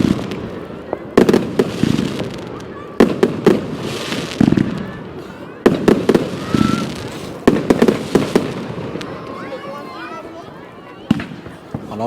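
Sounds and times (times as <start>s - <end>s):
fireworks bangs with rumbling echo: 0.0s - 12.0s
fireworks crackling: 0.0s - 12.0s.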